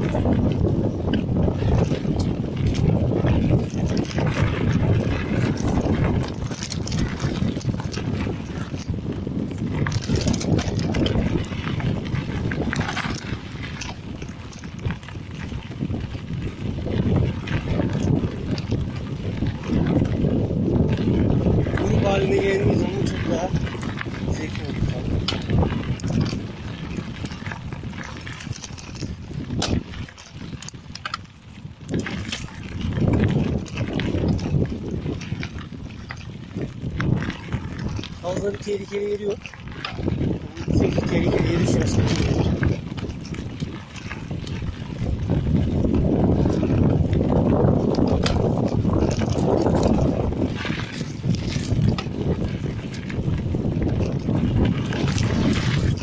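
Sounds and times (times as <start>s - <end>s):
bike rattling over bumps: 0.0s - 56.0s
tyres rumbling on dirt trail: 0.0s - 56.0s
wind rushing on microphone: 0.0s - 56.0s.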